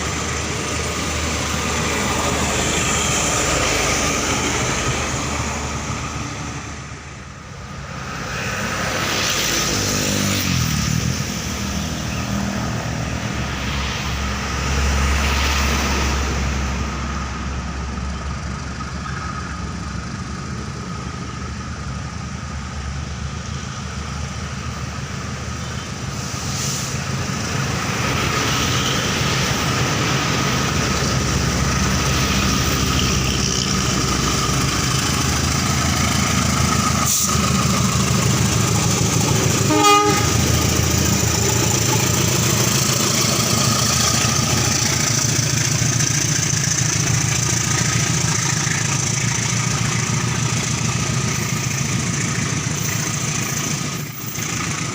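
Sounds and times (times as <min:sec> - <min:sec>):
heavy engine running: 0:00.0 - 0:54.9.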